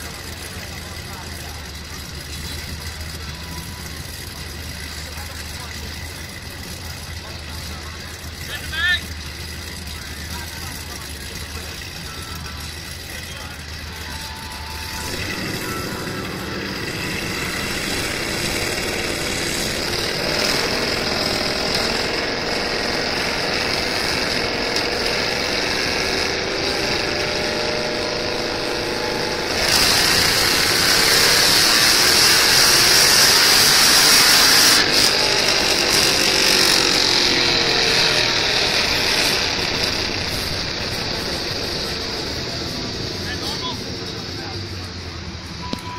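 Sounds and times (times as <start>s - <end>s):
engine running on a dyno: 0.0s - 45.9s
high supercharger whine and hiss: 8.3s - 45.7s.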